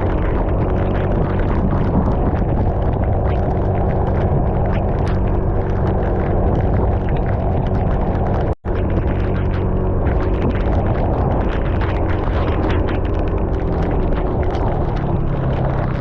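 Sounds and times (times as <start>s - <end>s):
crackling: 0.0s - 16.0s
wind rushing over microphone: 0.0s - 16.0s.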